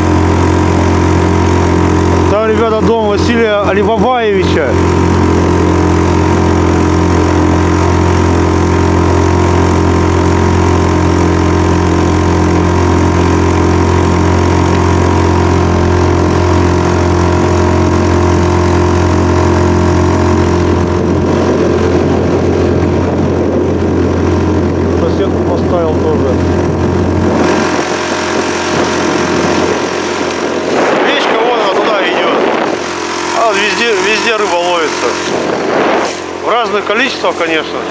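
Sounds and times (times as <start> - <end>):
outboard motor running: 0.0 - 37.9.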